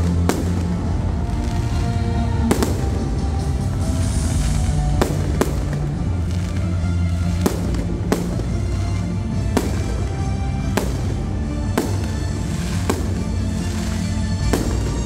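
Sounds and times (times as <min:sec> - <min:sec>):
fireworks bursting: 0:00.0 - 0:15.0
music with low bass: 0:00.0 - 0:15.0.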